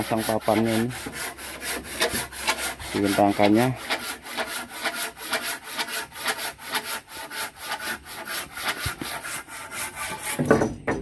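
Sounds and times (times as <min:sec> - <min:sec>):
handsaw cutting wood: 0:00.0 - 0:10.7.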